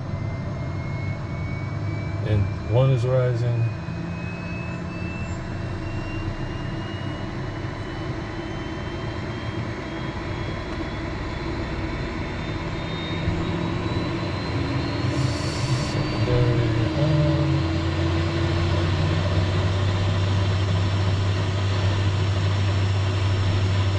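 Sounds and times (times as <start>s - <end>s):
jet engine whine rising: 0.0s - 23.9s
low engine rumble: 1.0s - 23.9s.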